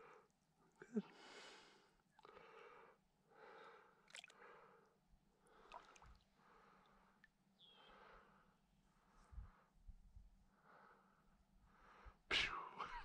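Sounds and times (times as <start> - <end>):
faint slow breathing: 1.0 - 9.9, 10.5 - 12.2.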